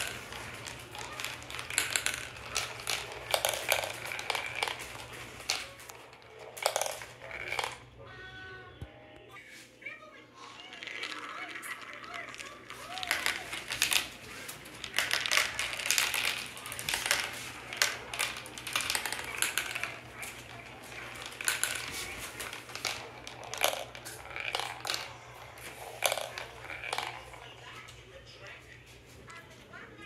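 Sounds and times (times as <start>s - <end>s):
marbles rattling on plastic track: 0.0s - 7.9s, 10.4s - 28.0s.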